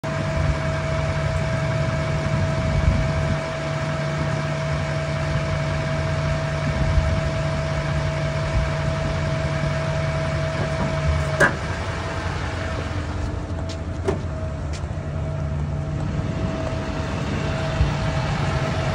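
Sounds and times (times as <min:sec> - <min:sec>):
diesel engine drone: 0:00.0 - 0:18.9
hydraulic whine: 0:00.0 - 0:18.9.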